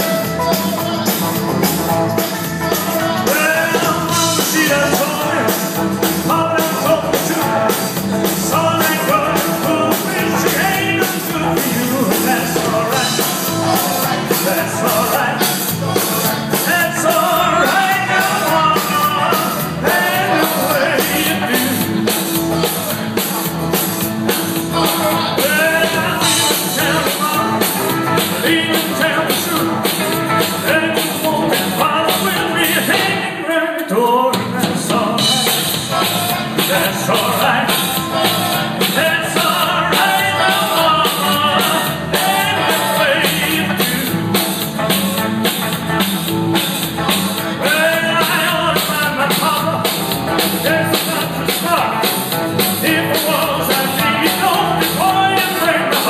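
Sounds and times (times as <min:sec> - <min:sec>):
voices singing: 0:00.0 - 0:45.3, 0:47.0 - 0:56.0
rock and roll band playing: 0:00.0 - 0:56.0.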